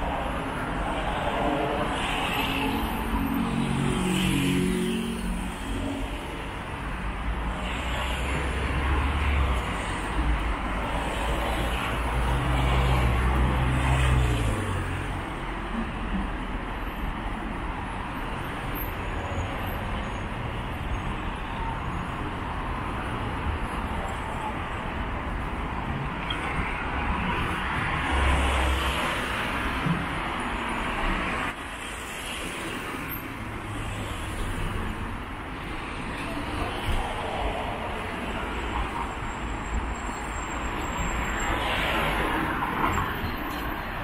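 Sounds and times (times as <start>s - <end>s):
cars passing: 0.0s - 44.0s.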